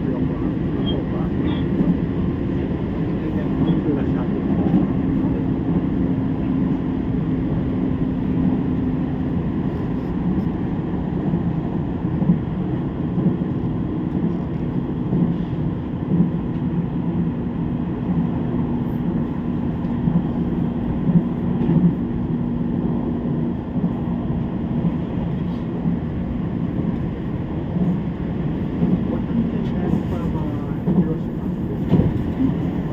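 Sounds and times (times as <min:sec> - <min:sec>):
train rumble: 0:00.0 - 0:32.9.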